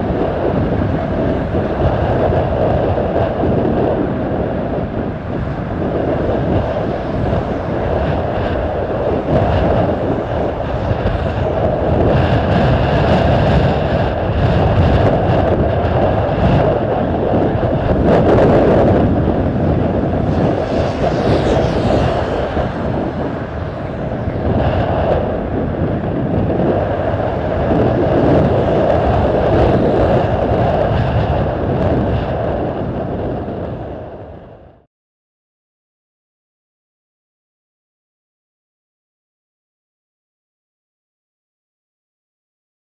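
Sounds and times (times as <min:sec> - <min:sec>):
jet engines roaring: 0:00.0 - 0:34.8
wind buffeting microphone: 0:00.0 - 0:34.9.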